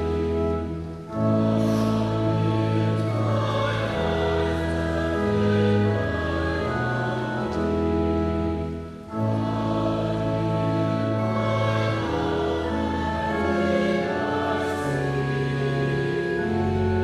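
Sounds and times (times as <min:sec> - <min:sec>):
congregation and choir singing a hymn: 0:00.0 - 0:17.0.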